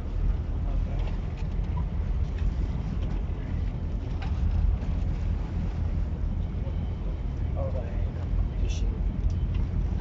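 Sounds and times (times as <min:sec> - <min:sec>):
boat engine low rumble: 0:00.0 - 0:10.0.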